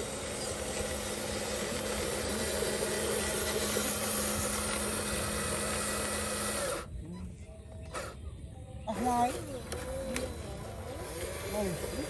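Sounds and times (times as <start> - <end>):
toy truck motor humming: 0.0 - 12.0.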